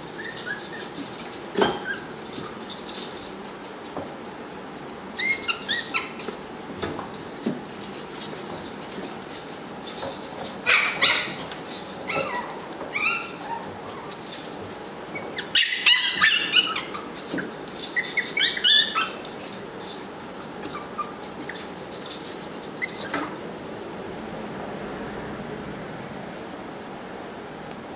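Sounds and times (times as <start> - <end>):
puppies yapping: 0.0 - 4.2, 5.1 - 23.4.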